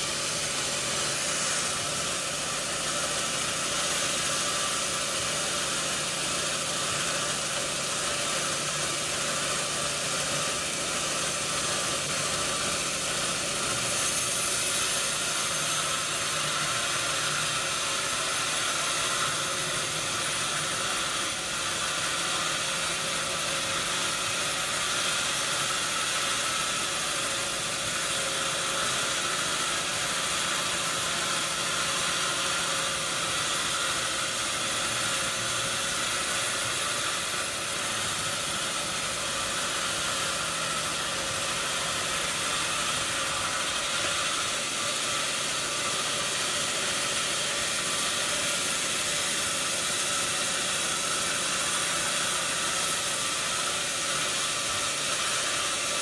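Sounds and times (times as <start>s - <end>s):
constant machinery hum: 0.0s - 56.0s
mechanical hiss of sawmill machinery: 0.0s - 56.0s.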